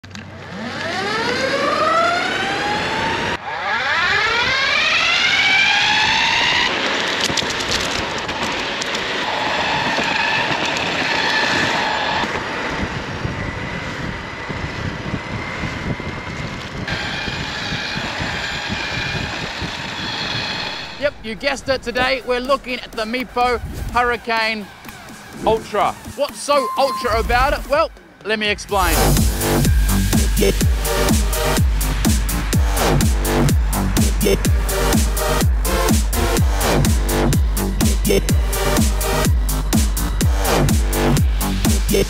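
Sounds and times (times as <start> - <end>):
electric skateboard motor whining: 0.1 - 21.2, 29.0 - 42.0
rushing noise: 5.3 - 42.0.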